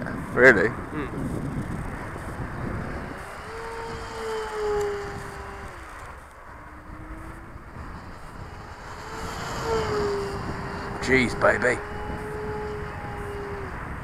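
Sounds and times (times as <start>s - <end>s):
model plane motor whining: 0.5s - 14.0s.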